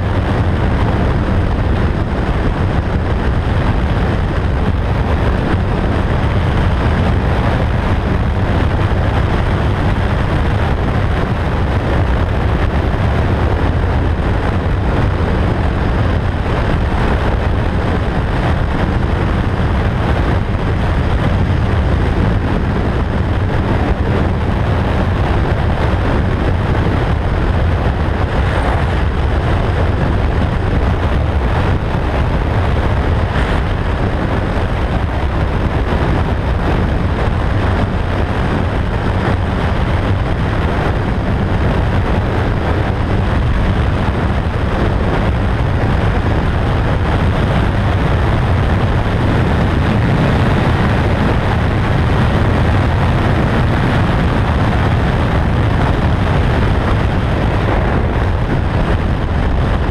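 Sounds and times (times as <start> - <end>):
motorcycle engine drone: 0.0 - 59.9
wind rush: 0.0 - 59.9.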